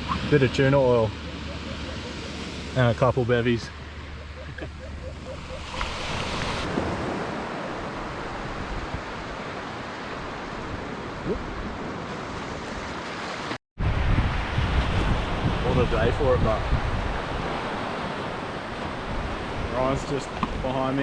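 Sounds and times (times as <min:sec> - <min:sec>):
wind buffeting microphone: 0:00.0 - 0:12.8, 0:13.8 - 0:20.7
waves breaking on beach: 0:00.0 - 0:13.6, 0:14.2 - 0:21.0.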